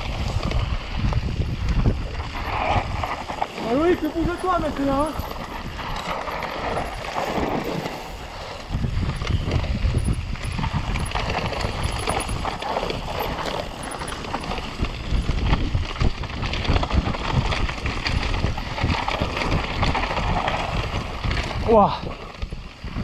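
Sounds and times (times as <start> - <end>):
bike rattling over rocks: 0.0 - 23.0
wind rumble on microphone: 0.0 - 23.0.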